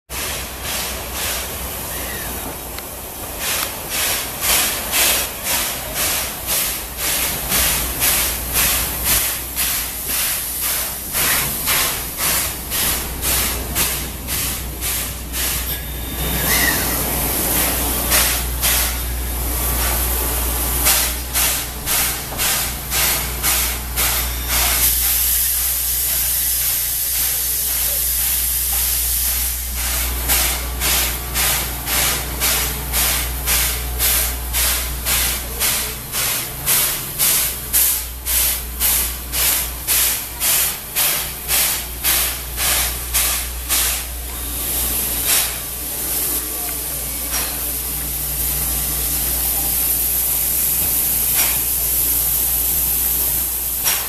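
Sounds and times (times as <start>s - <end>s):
steam hiss: 0.1s - 54.0s
steam locomotive chuffing: 0.1s - 54.0s.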